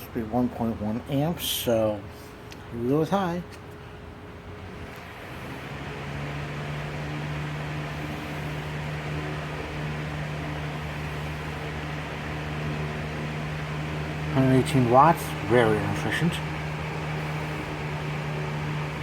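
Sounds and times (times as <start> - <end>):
box fan motor humming: 0.0 - 19.0.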